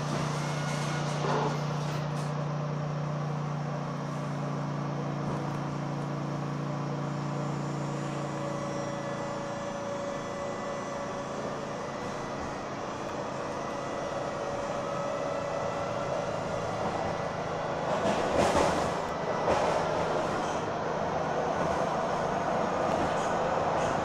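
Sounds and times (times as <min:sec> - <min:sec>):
train rumble and rattle: 0:00.0 - 0:24.0.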